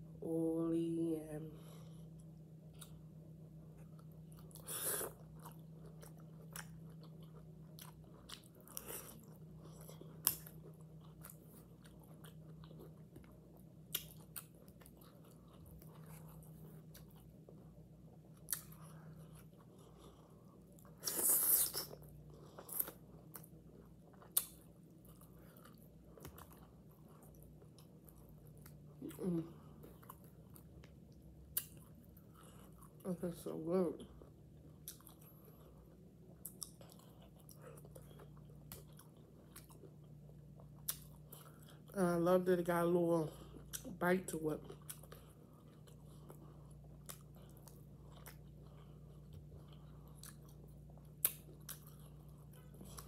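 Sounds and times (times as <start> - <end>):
steady low hum: 0.0 - 53.0
person chewing food: 1.7 - 33.0, 34.1 - 42.0, 44.6 - 53.0.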